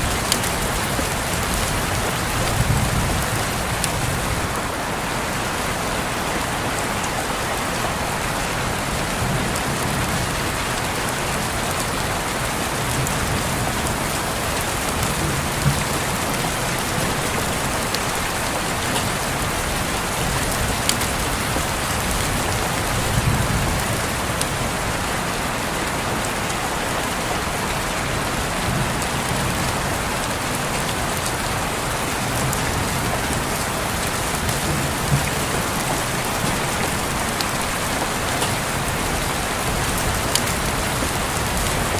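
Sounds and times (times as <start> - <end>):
rain on a window: 0.0 - 41.9.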